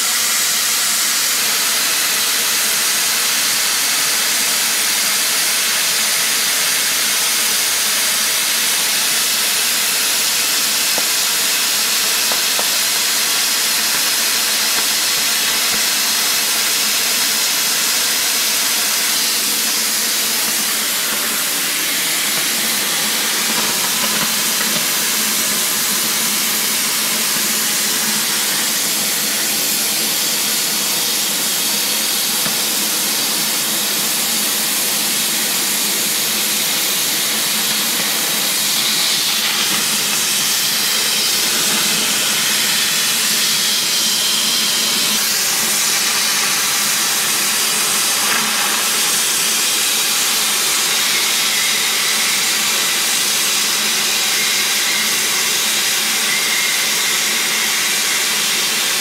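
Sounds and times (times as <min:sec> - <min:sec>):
cutting torch hissing: 0:00.0 - 0:59.0.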